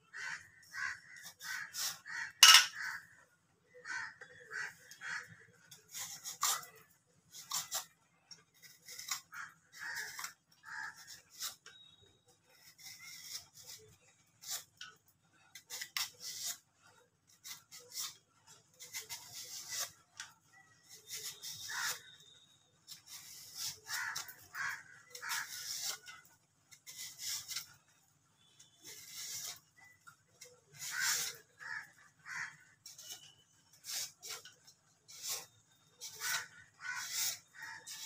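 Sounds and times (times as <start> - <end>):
knife scraping mango skin: 0.2 - 3.1, 4.6 - 38.0.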